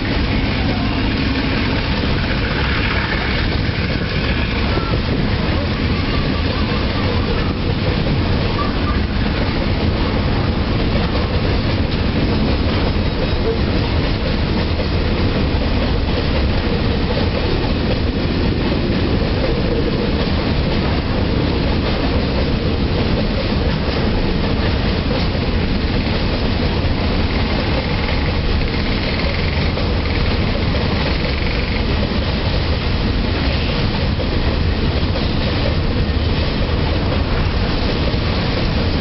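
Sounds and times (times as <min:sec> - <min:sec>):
train wheels rolling on rails: 0:00.0 - 0:39.0.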